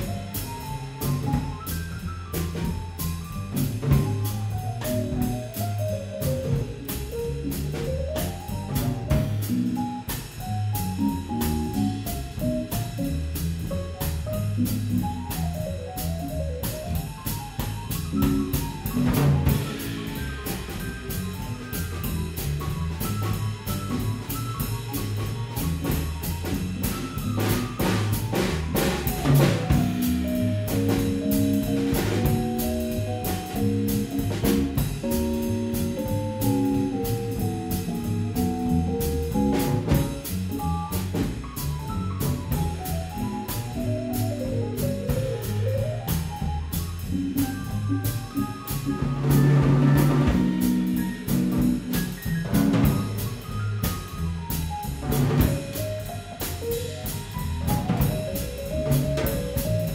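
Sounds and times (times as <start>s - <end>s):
drum kit cymbals: 0.0s - 59.9s
jazz piano solo: 0.0s - 59.9s
walking upright bass: 0.0s - 59.9s.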